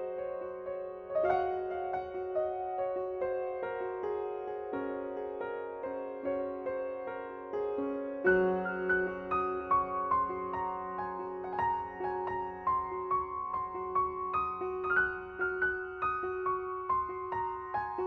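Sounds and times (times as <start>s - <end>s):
soft piano melody: 0.0s - 18.0s.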